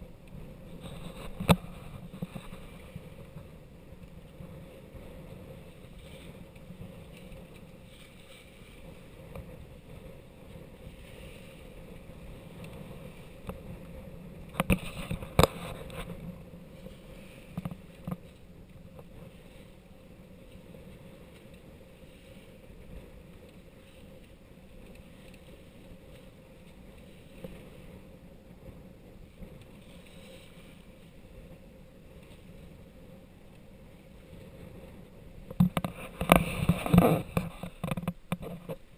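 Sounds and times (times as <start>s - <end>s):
water rushing along a hull: 0.0s - 38.9s.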